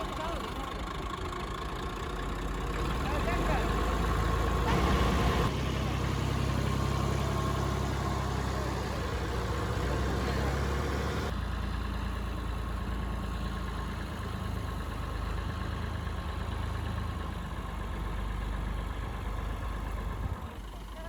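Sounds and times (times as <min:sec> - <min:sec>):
large engine humming: 0:00.0 - 0:21.0.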